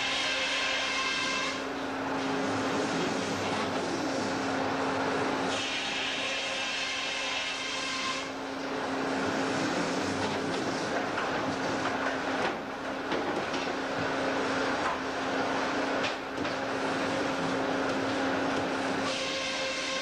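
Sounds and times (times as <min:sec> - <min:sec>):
sawmill engine drone: 0:00.0 - 0:20.0.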